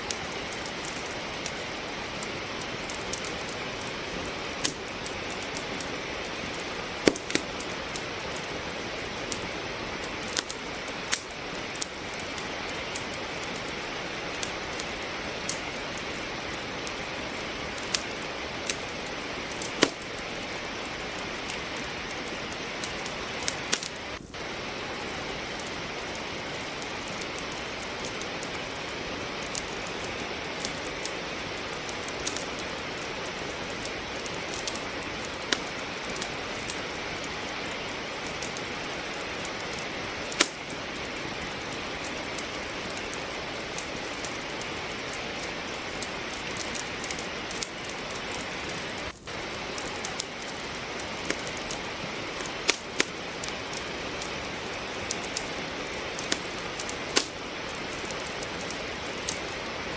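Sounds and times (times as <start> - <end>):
steady rain hiss: 0.0 - 59.9
wood fire crackling and popping: 0.0 - 59.9.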